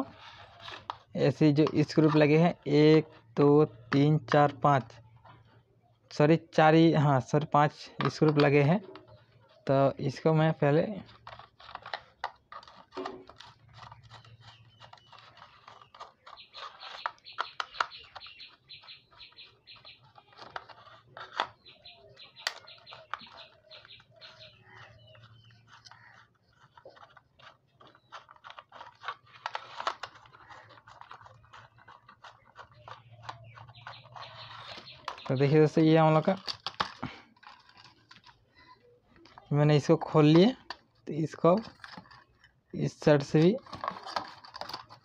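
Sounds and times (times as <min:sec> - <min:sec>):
screwdriver clicking and scraping plastic: 0:00.0 - 0:06.2, 0:07.4 - 0:42.6, 0:43.2 - 0:45.0.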